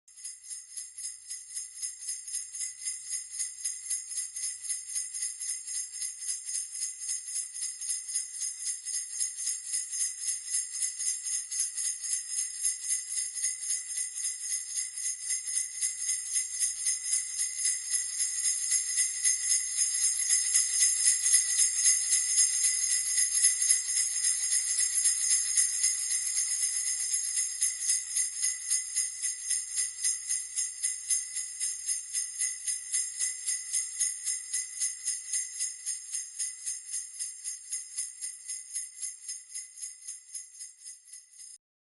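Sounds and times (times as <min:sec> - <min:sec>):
sleigh bells jingling: 0:00.1 - 0:41.6.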